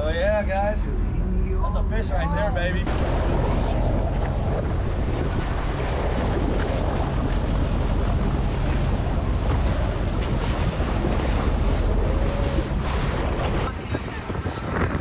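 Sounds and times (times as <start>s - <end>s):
wind rumble on microphone: 0.9s - 15.0s
sea water splashing against boat: 2.8s - 15.0s.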